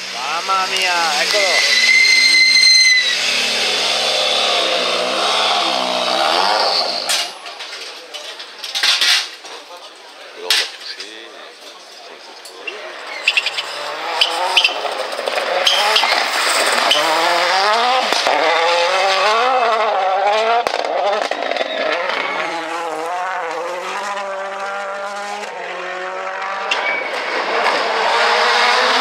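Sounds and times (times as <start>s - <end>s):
rally car engine revving: 0.0s - 9.4s, 12.6s - 29.0s.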